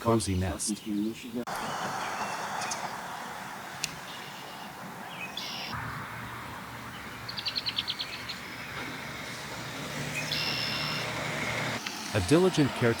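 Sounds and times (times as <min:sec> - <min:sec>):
osprey chirping: 0:00.4 - 0:11.3.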